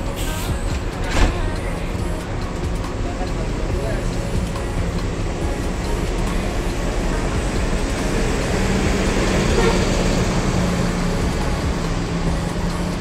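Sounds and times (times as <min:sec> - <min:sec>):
bus diesel engine driving past: 0:00.0 - 0:13.0.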